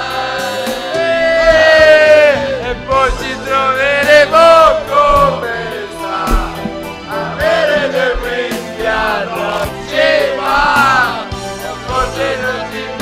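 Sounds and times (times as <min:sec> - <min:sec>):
song with singing over beat: 0:00.0 - 0:13.0.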